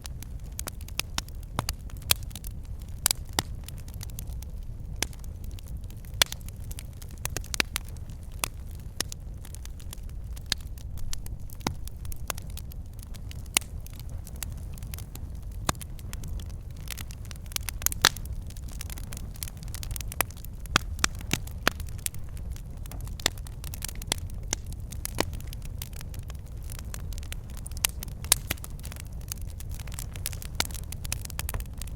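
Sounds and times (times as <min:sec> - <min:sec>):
fire flames rumbling: 0:00.0 - 0:31.9
logs crackling and popping: 0:00.0 - 0:31.9.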